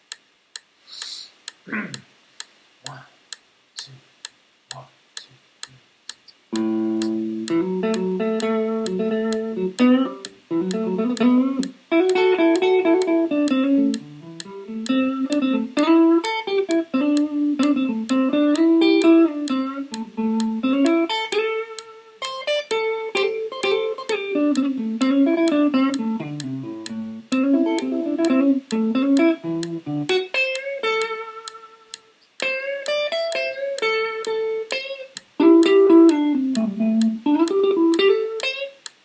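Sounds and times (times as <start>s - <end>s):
metronome clicking: 0.0s - 39.0s
electric guitar solo: 6.5s - 38.8s.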